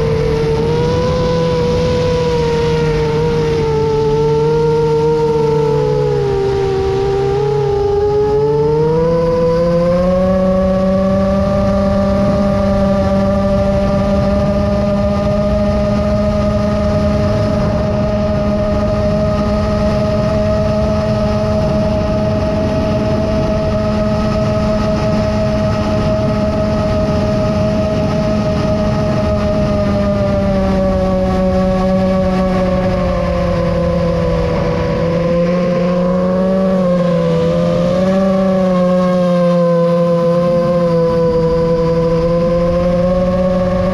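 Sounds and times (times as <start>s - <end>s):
drone motors whining: 0.0s - 43.9s.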